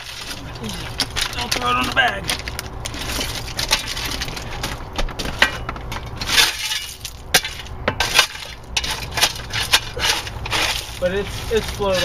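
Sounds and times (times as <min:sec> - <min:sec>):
shale stones clattering: 0:00.0 - 0:12.0.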